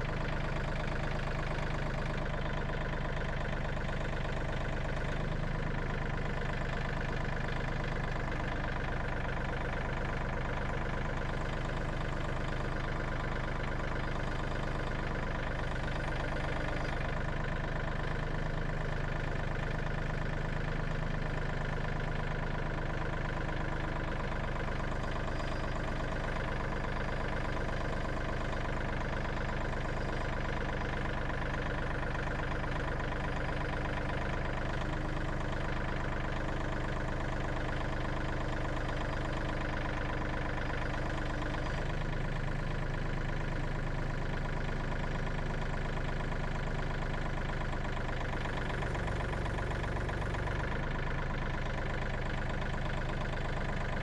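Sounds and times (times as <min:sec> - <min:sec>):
engine humming steadily: 0:00.0 - 0:54.0.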